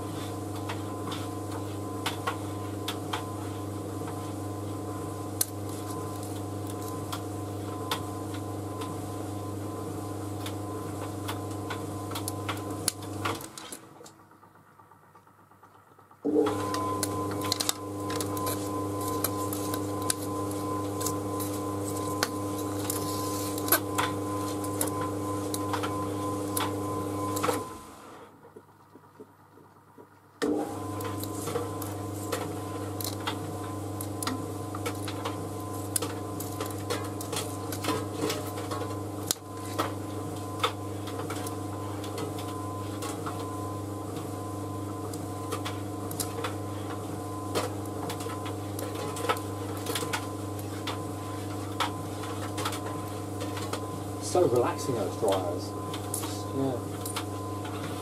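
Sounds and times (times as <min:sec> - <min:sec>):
tumble dryer motor hum: 0:00.0 - 0:28.3, 0:30.4 - 0:58.0.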